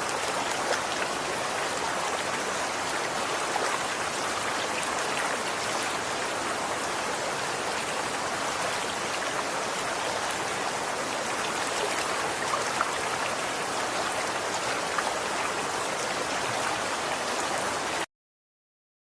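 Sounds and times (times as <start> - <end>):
running water flowing: 0.0 - 18.1.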